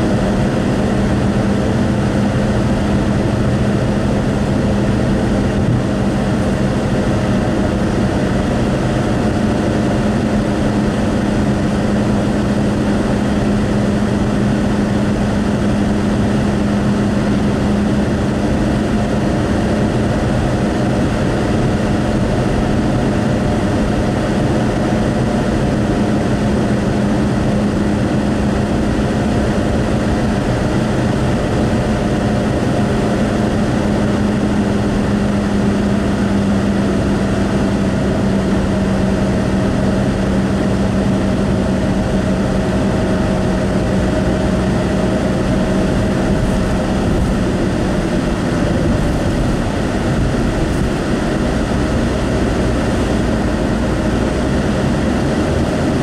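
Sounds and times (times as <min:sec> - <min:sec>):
low engine hum: 0:00.0 - 0:56.0
road and tyre noise: 0:00.0 - 0:56.0.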